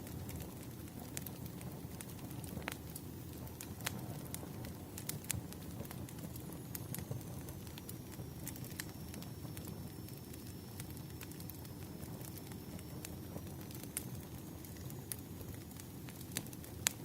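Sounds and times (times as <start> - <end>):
fire crackling and popping: 0.0 - 17.0
rumble of flames: 0.0 - 17.0.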